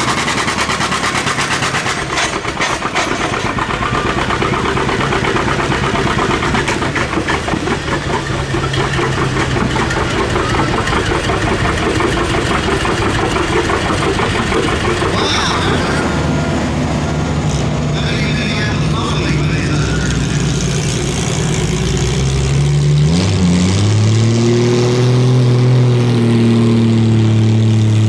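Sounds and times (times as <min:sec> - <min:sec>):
loud pulling vehicle engine running: 0:00.0 - 0:28.0.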